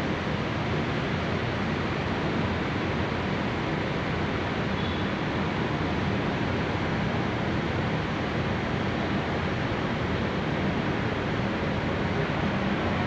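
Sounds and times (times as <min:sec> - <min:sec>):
low hum of ship engines: 0:00.0 - 0:13.0.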